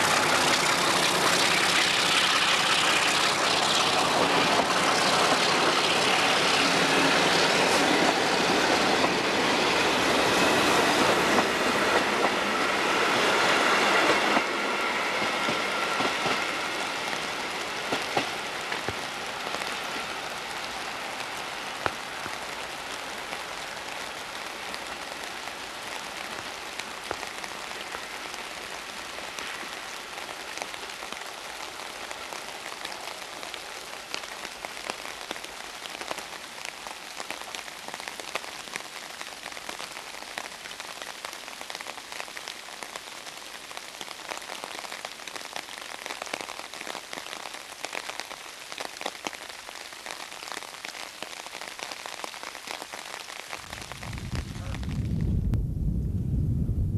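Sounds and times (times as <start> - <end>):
rain pattering: 0.0 - 55.9.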